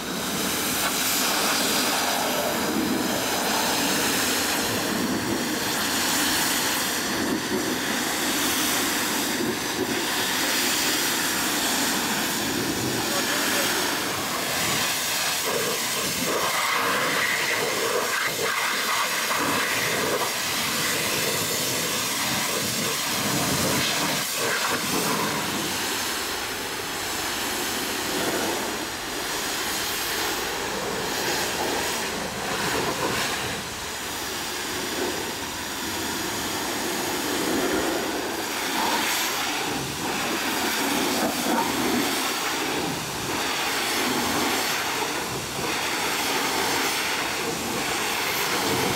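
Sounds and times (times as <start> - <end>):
pressure washer spraying water: 0.0 - 48.9.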